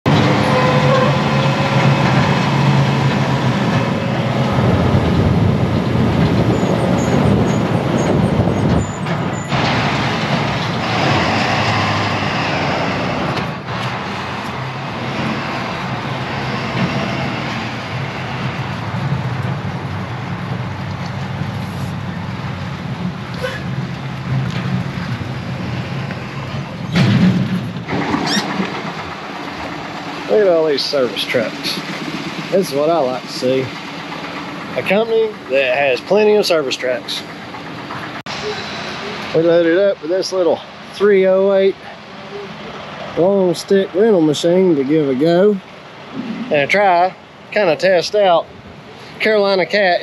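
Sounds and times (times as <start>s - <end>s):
heavy vehicle engine running: 0.0s - 50.0s.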